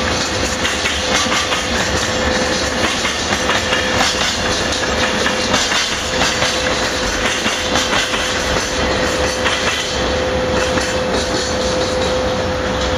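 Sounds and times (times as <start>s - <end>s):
train wheels clattering over rails: 0.0s - 12.9s.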